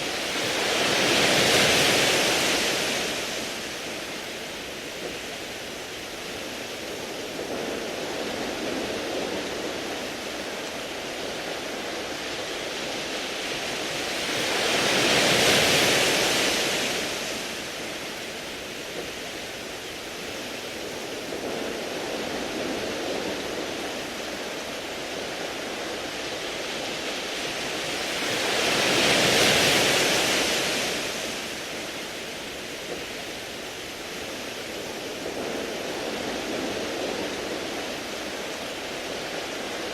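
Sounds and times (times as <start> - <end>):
waves washing onto pebble beach: 0.0 - 39.9.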